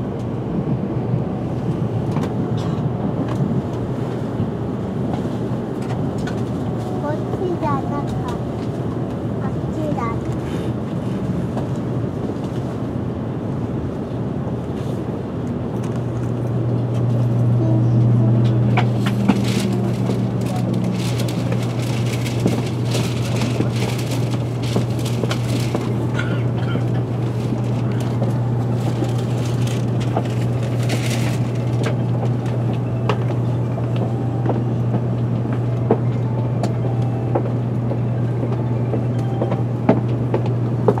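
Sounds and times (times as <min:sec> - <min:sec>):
train cabin hum: 0:00.0 - 0:41.0.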